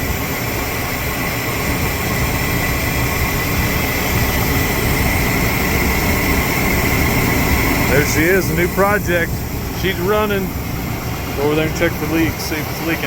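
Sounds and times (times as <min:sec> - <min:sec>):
pickup engine idling: 0:00.0 - 0:13.0
thin high whine: 0:00.0 - 0:13.0.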